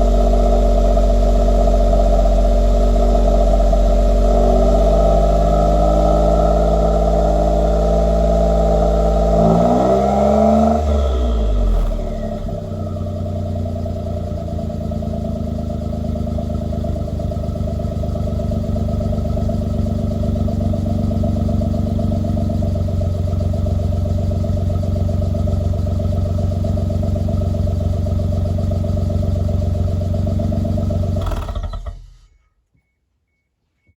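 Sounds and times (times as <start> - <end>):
car engine running: 0.0 - 32.3.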